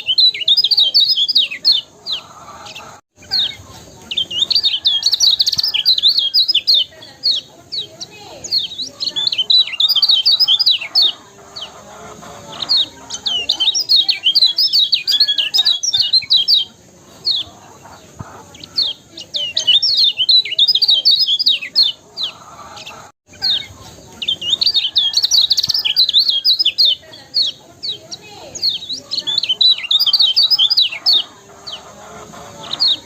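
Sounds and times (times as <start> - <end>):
songbird twittering: 0.0 - 33.0.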